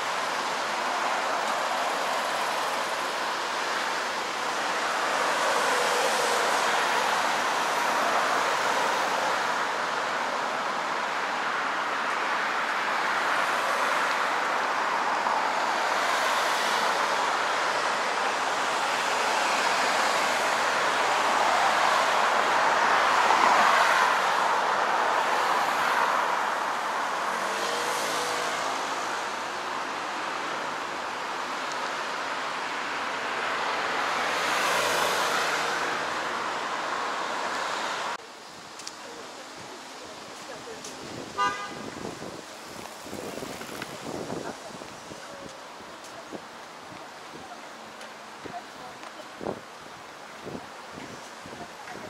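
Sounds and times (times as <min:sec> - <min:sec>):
road traffic passing: 0:00.0 - 0:52.0.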